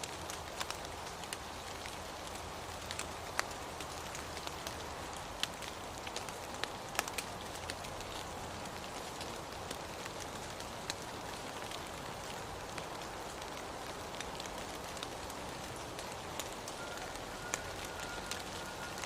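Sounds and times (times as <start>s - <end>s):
raindrops ticking: 0.0s - 19.0s
steady rain falling: 0.0s - 19.0s.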